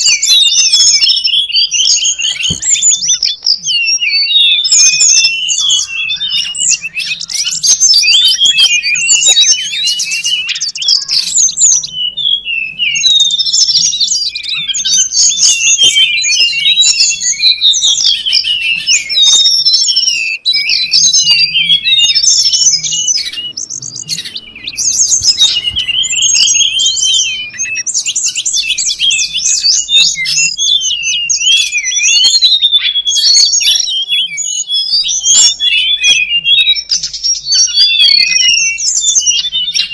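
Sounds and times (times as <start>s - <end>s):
flycatcher chirping and twittering: 0.0s - 39.9s.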